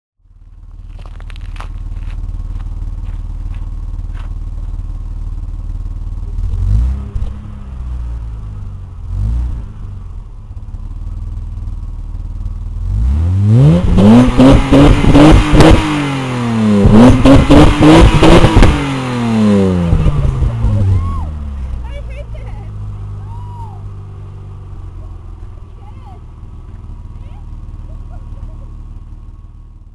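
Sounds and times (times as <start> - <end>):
car engine idling and revving: 0.2 - 29.9.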